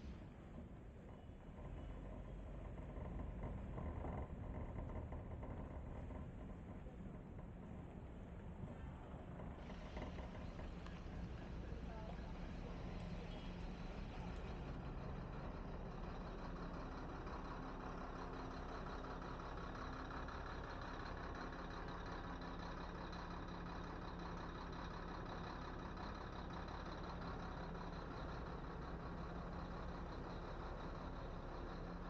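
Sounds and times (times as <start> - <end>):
vehicle engine running: 1.2 - 32.0.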